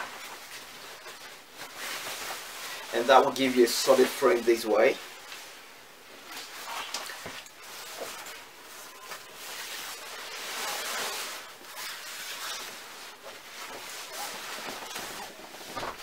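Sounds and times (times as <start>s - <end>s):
nylon fabric rustling: 0.0s - 16.0s.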